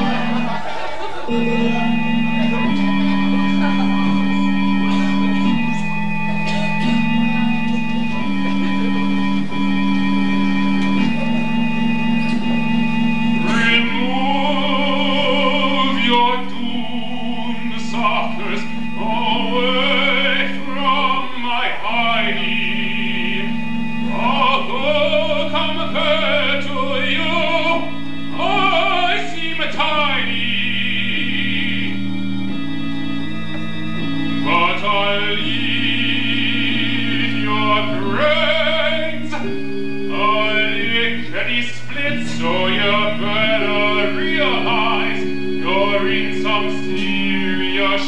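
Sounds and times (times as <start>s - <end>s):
opera singing voice: 0.0s - 32.6s, 34.4s - 48.0s
low accompaniment chords: 0.0s - 48.0s.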